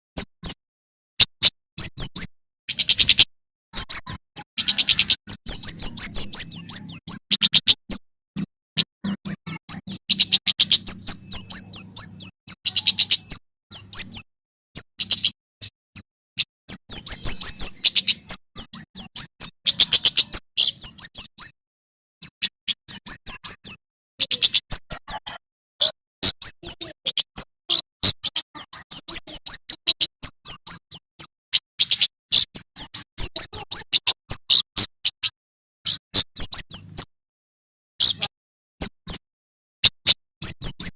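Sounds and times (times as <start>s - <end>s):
bird singing sharp high chirps: 1.2s - 21.6s, 22.2s - 37.1s, 38.0s - 39.2s, 39.8s - 40.9s.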